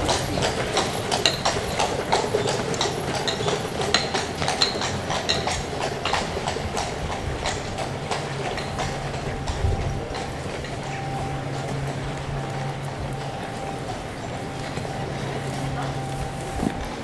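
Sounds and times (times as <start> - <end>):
horse hooves on cobblestones: 0.0 - 17.0.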